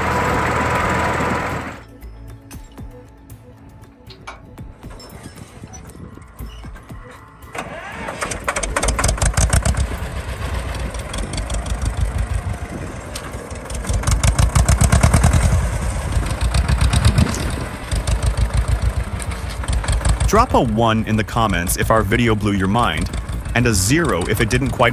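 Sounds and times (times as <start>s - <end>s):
tractor engine starting and running: 0.0s - 24.9s.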